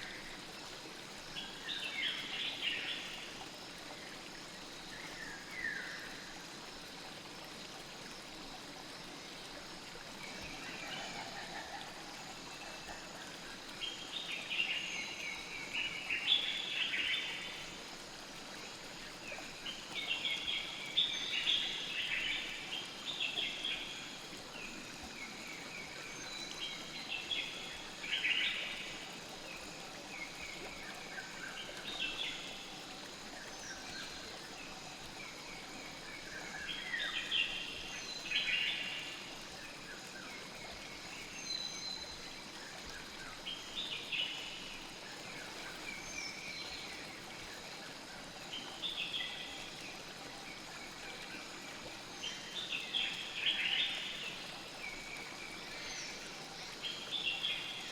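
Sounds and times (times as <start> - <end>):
flowing river water: 0.0 - 57.9.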